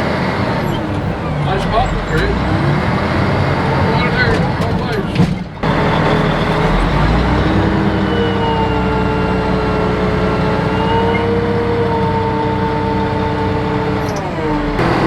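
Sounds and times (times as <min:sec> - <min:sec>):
bulldozer diesel engine under load: 0:00.0 - 0:15.0
high engine whine: 0:00.0 - 0:15.0.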